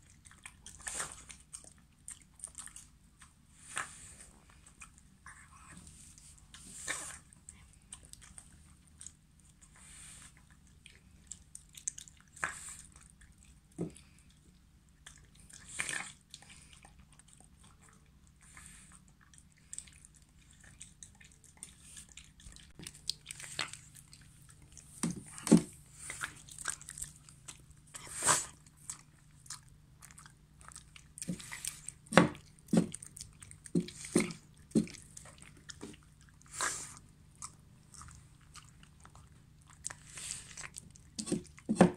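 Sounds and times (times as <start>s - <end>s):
dog chewing wet food: 0.0s - 41.9s.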